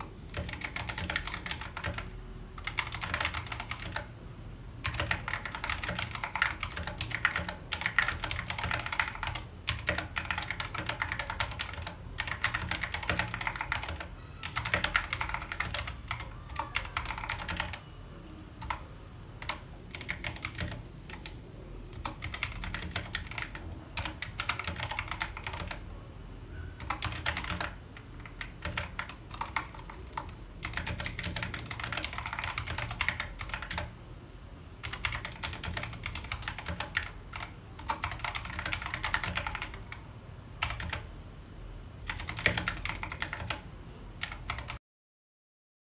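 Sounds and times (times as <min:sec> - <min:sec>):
mechanical keyboard typing: 0:00.0 - 0:04.1, 0:04.8 - 0:17.8, 0:18.6 - 0:25.8, 0:26.8 - 0:34.0, 0:34.8 - 0:40.0, 0:40.6 - 0:41.1, 0:42.0 - 0:43.6, 0:44.2 - 0:44.8.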